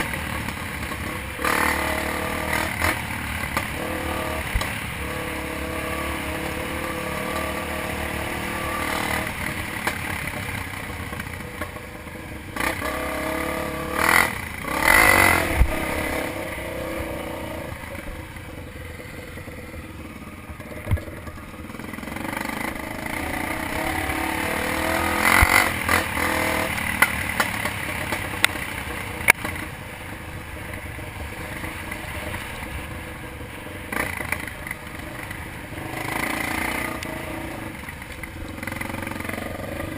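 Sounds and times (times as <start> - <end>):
dirt bike engine revving: 0.0 - 11.1, 12.4 - 18.2, 19.1 - 28.9, 33.9 - 37.8, 38.4 - 39.9.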